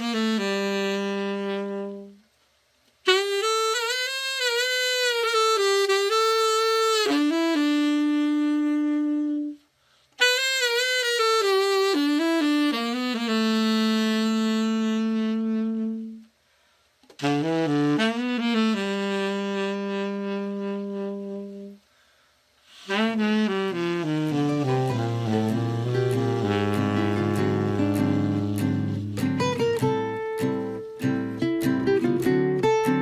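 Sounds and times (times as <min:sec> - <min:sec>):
tenor saxophone melody: 0:00.0 - 0:02.3, 0:03.0 - 0:16.4, 0:17.1 - 0:33.0.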